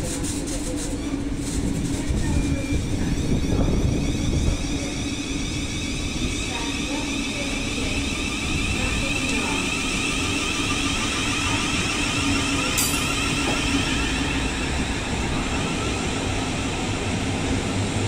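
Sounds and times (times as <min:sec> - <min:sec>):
electric train traction hum: 0:01.4 - 0:18.0.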